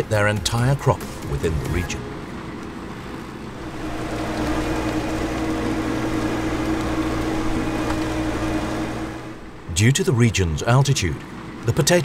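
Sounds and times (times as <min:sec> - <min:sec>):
harvester and tractor humming: 0:00.0 - 0:12.0.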